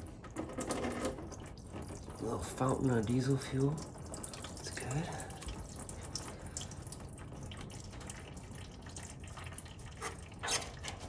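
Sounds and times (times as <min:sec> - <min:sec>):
fuel splashing and dripping: 0:00.0 - 0:11.0.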